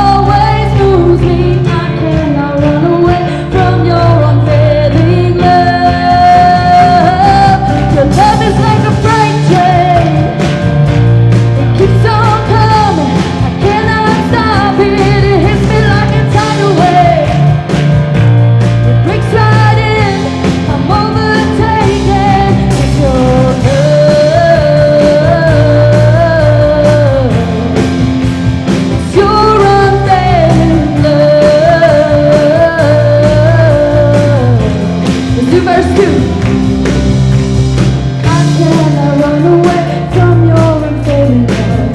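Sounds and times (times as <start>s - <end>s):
lead singer singing: 0.0s - 18.2s, 18.8s - 37.1s, 38.1s - 41.9s
worship band playing: 0.0s - 41.9s.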